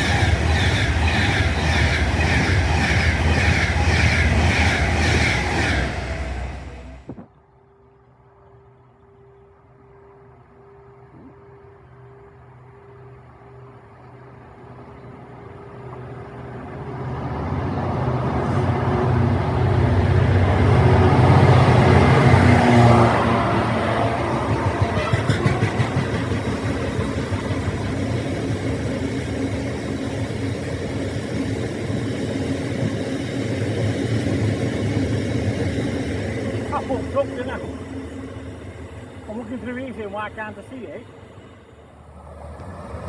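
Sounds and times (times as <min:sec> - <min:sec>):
train engine drone: 0:00.0 - 0:43.0.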